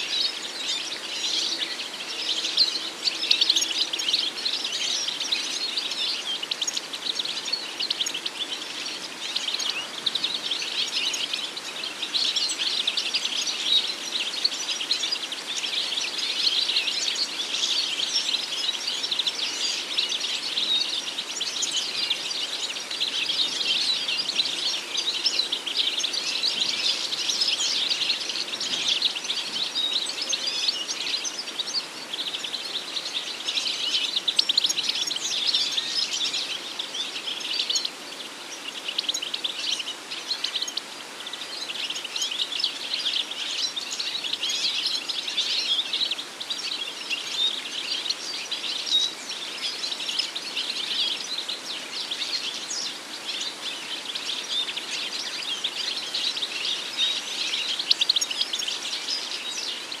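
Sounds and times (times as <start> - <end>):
goldfinch twittering song: 0.0 - 60.0.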